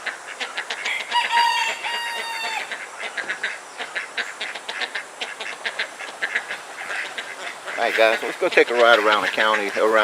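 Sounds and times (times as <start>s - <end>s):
poultry clucking and quacking: 0.0s - 10.0s.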